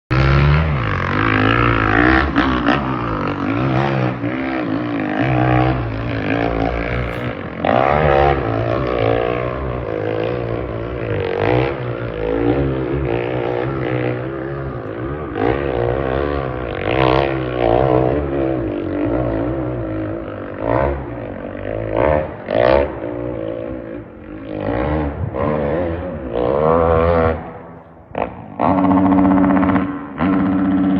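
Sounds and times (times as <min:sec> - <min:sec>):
dirt bike engine revving: 0:00.1 - 0:30.9.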